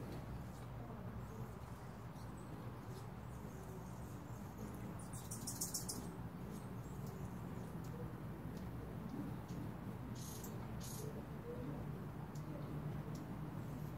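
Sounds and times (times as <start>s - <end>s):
hummingbirds chipping: 0.0s - 13.9s
rapid high bird chatter: 0.3s - 13.9s.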